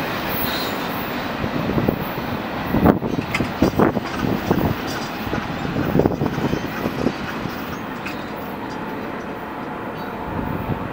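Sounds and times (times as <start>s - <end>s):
freight train wheels rumbling: 0.0s - 10.9s
train knocks: 1.5s - 10.9s.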